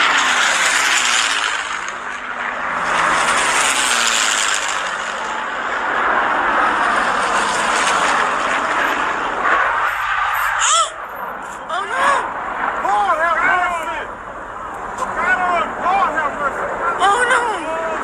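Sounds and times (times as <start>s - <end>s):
broad rushing noise: 0.0s - 18.0s
propeller plane engines droning: 0.0s - 18.0s.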